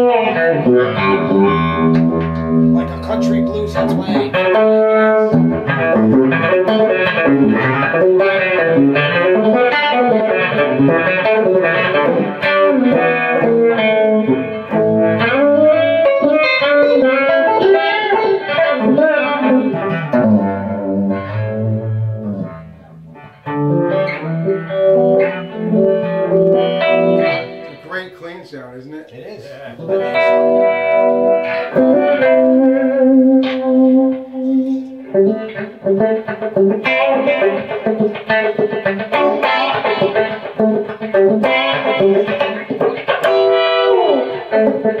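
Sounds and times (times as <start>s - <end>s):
guitar playing notes and chords: 0.0s - 28.2s, 29.5s - 45.0s.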